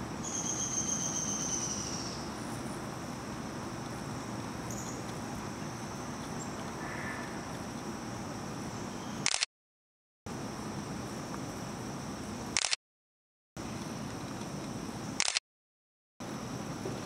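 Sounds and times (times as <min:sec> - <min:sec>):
insects droning: 0:00.0 - 0:09.4, 0:10.3 - 0:12.7, 0:13.6 - 0:15.3, 0:16.2 - 0:17.0.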